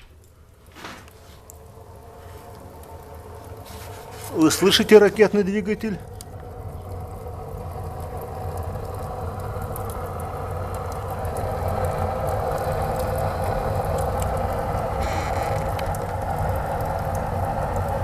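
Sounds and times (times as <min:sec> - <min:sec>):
burning wood crackling: 0:00.0 - 0:18.0
fire roaring in chimney draft: 0:00.0 - 0:18.0.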